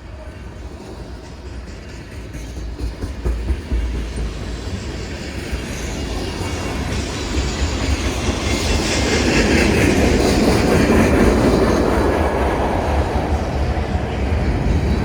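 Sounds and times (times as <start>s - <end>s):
freight train cars rumbling on rails: 0.0s - 15.0s.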